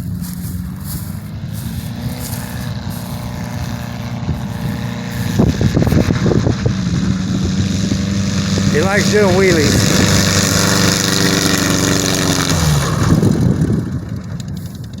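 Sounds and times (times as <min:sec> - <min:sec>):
light aircraft engine running: 0:00.0 - 0:15.0.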